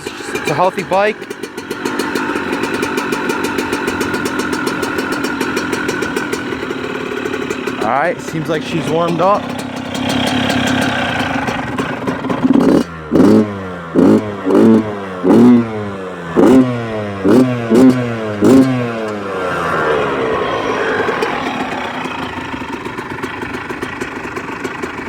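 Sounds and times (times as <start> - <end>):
two-stroke motorcycle engine revving: 0.0 - 25.0.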